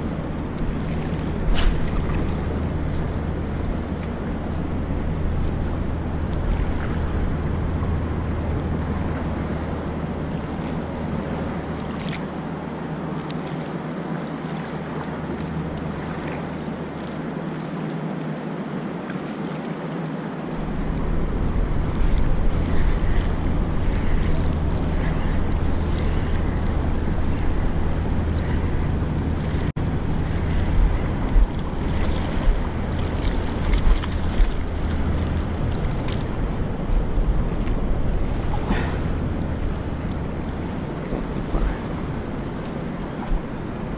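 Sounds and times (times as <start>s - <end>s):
wind buffeting microphone: 0.0s - 13.2s, 20.5s - 43.9s
water lapping at shore: 0.0s - 43.9s.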